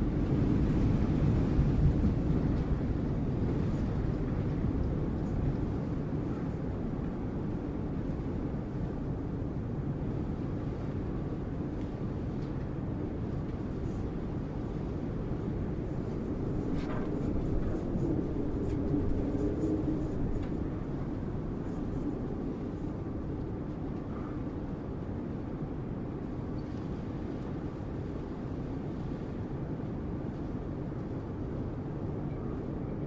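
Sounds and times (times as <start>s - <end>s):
strong wind blowing: 0.0s - 32.9s.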